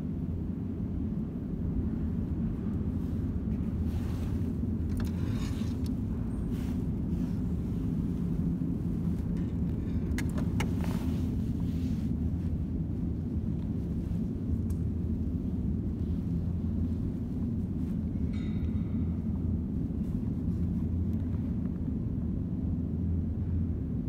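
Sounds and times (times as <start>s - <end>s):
low rumble of subway station: 0.0s - 24.0s.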